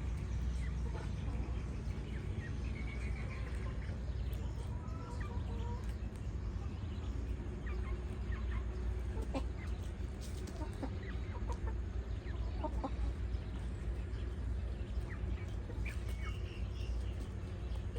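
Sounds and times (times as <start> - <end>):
chickens clucking: 0.0 - 17.9
steady low rumble: 0.0 - 17.9.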